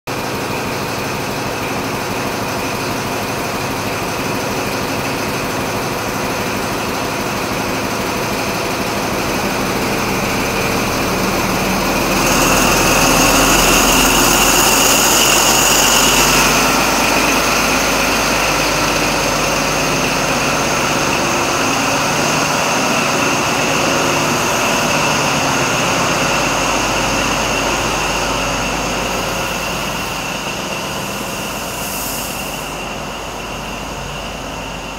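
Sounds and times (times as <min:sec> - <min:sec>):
diesel train engines with high whine: 0:00.1 - 0:34.9.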